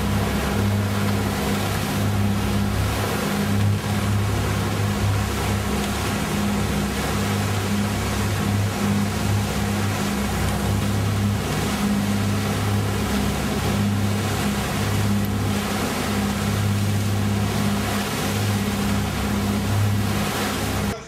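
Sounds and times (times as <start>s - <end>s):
boat engine humming: 0.0s - 21.0s
wind and water rushing: 0.0s - 21.0s.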